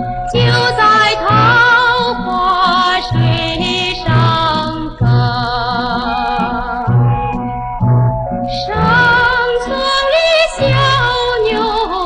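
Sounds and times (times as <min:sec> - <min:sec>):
woman singing with vibrato: 0:00.0 - 0:07.2, 0:08.5 - 0:12.0
small band playing: 0:00.0 - 0:10.0.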